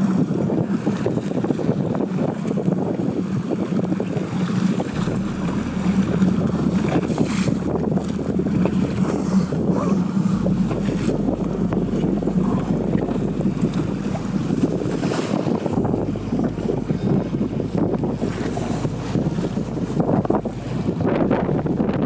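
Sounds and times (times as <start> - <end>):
wind buffeting microphone: 0.0 - 22.0
boat motor humming: 3.7 - 22.0.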